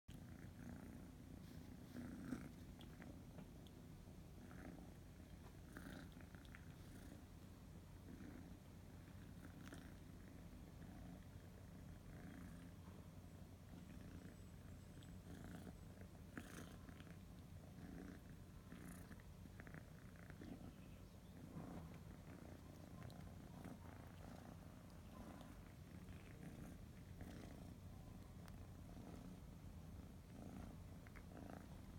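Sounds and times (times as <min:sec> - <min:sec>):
kitten purring: 0:00.1 - 0:31.9.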